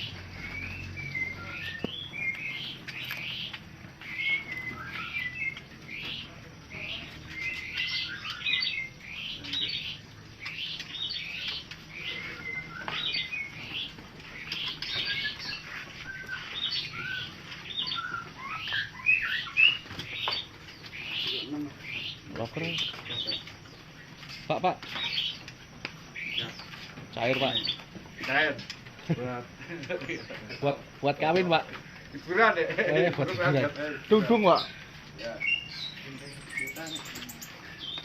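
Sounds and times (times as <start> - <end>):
many small birds chirping: 0.0 - 38.0.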